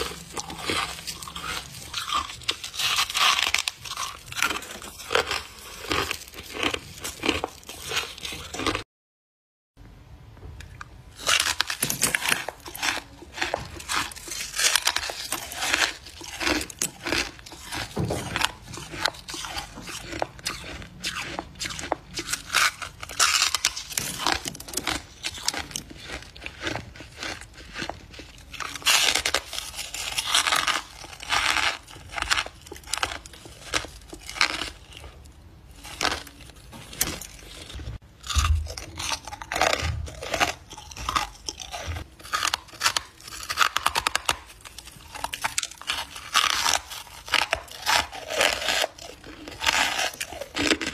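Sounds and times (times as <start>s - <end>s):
crunchy chewing of frost chunks: 0.0s - 8.8s, 10.7s - 50.9s.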